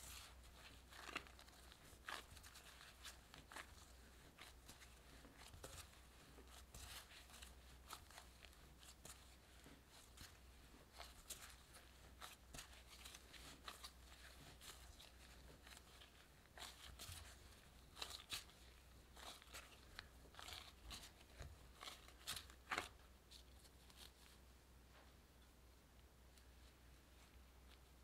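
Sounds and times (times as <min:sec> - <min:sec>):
plastic glove crackling: 0:00.0 - 0:24.4
gloved hand kneading dough: 0:00.0 - 0:28.0.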